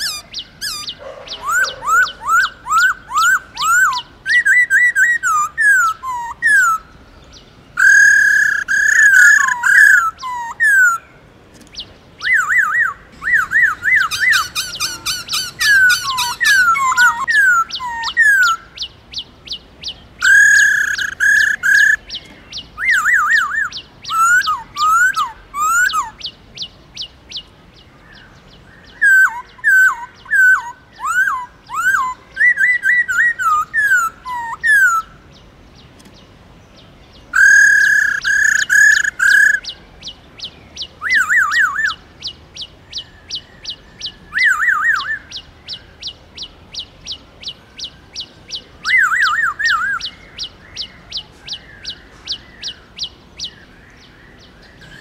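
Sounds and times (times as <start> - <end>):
bird singing whistled notes: 0.0 - 35.9, 36.8 - 55.0.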